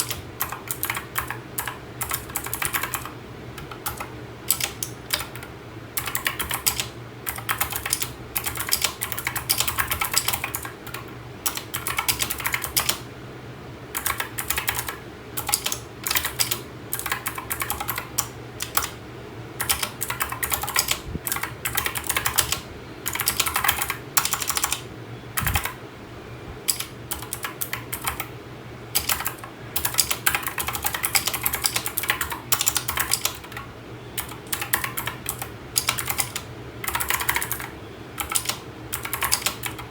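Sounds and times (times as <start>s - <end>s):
mechanical keyboard typing: 0.0s - 13.0s, 13.9s - 19.0s, 19.6s - 24.8s, 25.4s - 25.8s, 26.7s - 28.3s, 29.0s - 39.9s.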